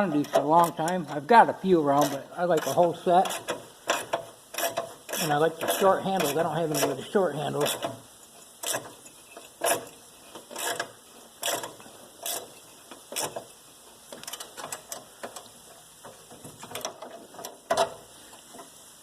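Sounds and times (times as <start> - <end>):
ratcheting wrench clicking: 2.0 - 6.9, 7.6 - 13.5, 14.1 - 18.7.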